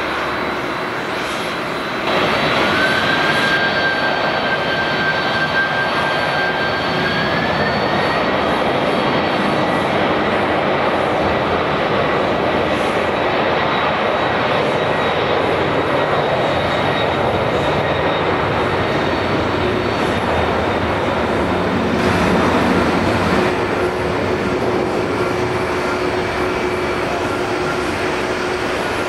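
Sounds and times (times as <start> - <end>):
high jet whine: 0.0 - 29.0
jet engine roar: 0.0 - 29.0.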